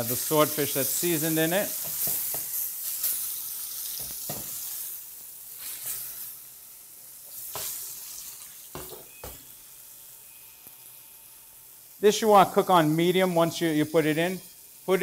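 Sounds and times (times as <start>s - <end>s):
fish sizzling in a pan: 0.0s - 15.0s.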